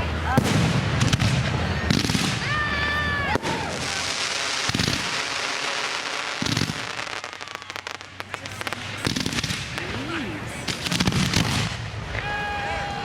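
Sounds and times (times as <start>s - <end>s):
fireworks crackling: 0.0s - 13.0s
fireworks booms: 0.2s - 12.1s.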